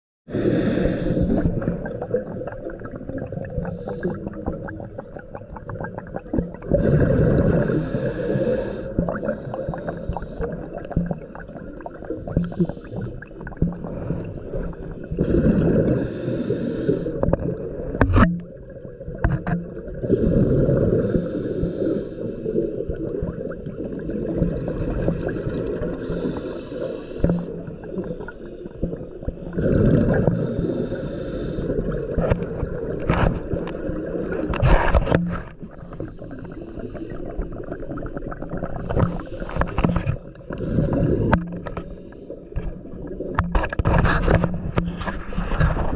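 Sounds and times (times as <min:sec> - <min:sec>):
regulator breathing bubbles: 0:00.3 - 0:18.5, 0:19.8 - 0:45.9.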